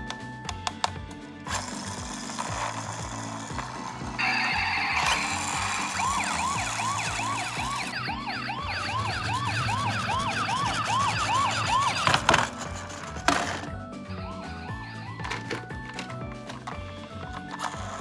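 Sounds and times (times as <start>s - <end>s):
toy electronic siren yelping: 2.4s - 18.0s.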